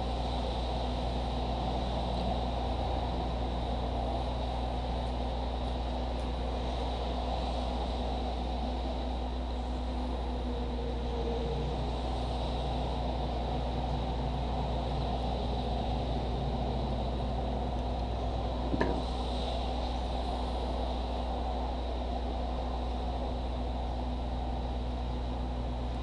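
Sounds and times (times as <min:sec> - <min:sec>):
low hum and hiss: 0:00.0 - 0:26.0.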